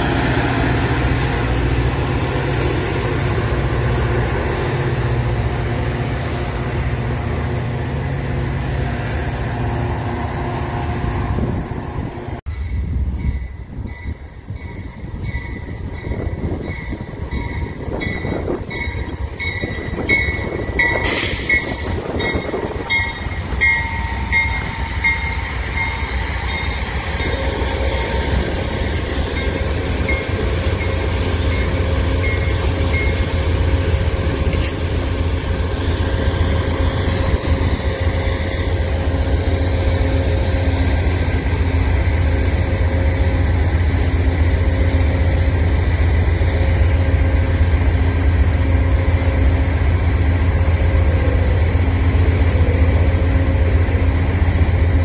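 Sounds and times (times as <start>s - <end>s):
low train rumble: 0.0s - 55.0s
train wheels rumbling on rail: 0.0s - 55.0s.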